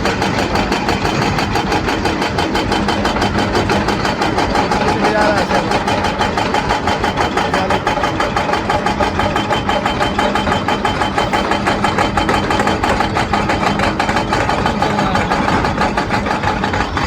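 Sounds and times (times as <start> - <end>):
pulsing diesel engine running: 0.0 - 17.0.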